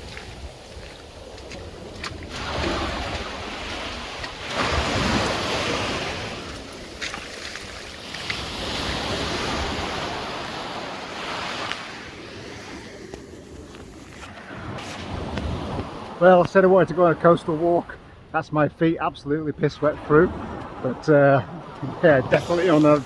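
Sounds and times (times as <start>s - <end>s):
wind buffeting microphone: 0.0s - 10.9s, 11.9s - 23.0s
sea waves washing on shore: 0.0s - 23.0s.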